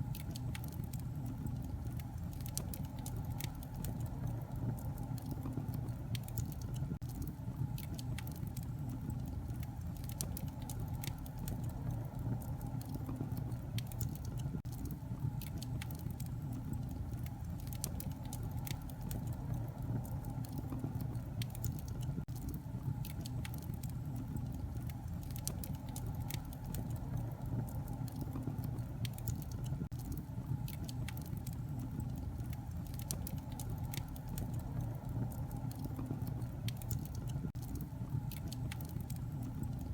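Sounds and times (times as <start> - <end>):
fireplace fire crackling: 0.0 - 39.9
low rumble of fire: 0.0 - 39.9.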